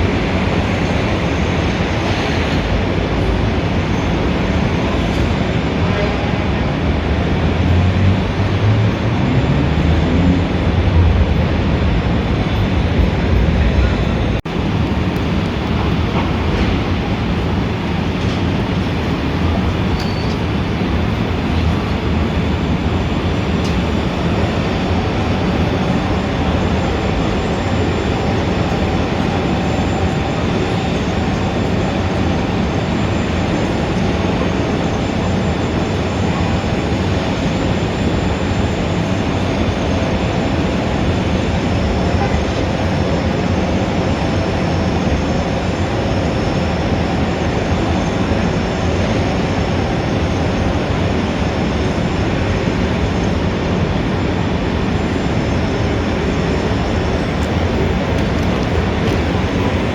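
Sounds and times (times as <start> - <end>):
dense street traffic: 0.0 - 59.9.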